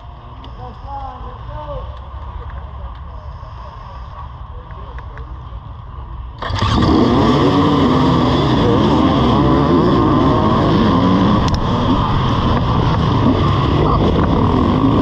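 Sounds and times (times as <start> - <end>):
dirt bike engines accelerating: 0.0 - 15.0.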